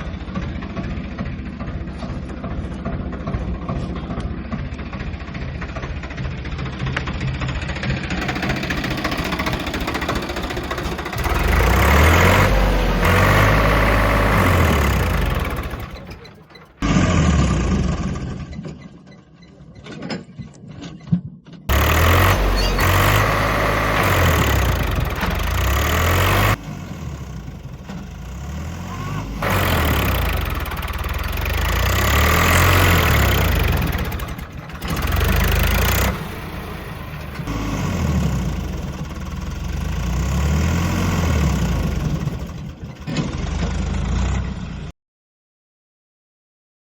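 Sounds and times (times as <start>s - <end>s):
tractor engines revving: 0.0s - 18.7s, 21.7s - 44.8s.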